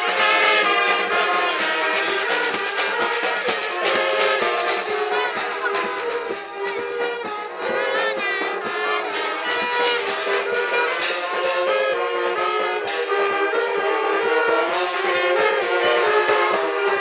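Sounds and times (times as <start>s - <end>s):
marching brass band playing: 0.0s - 17.0s.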